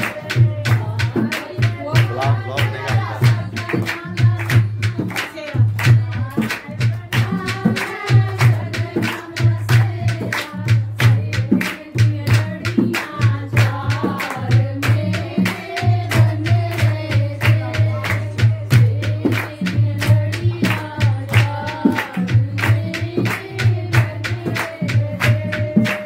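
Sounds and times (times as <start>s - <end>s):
song with singing over fast beat: 0.0s - 26.0s.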